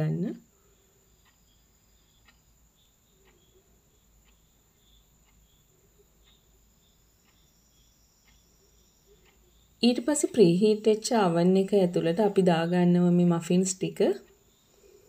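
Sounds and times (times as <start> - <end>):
faint high chirps: 0.0 - 15.0
soft ticking: 0.0 - 15.0.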